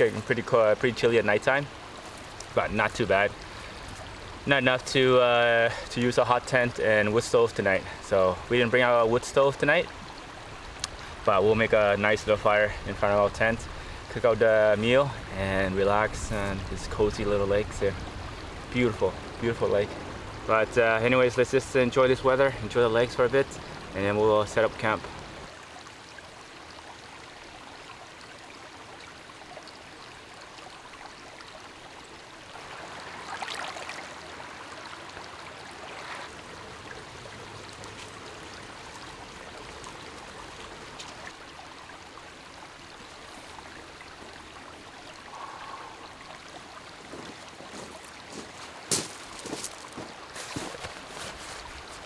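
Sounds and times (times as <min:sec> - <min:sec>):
water lapping at shore: 0:00.0 - 0:26.6, 0:29.9 - 0:52.0.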